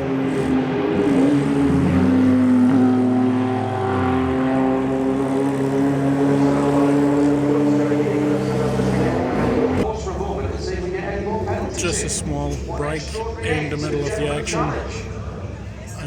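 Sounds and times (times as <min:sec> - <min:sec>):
racing car engines droning: 0:00.0 - 0:16.0.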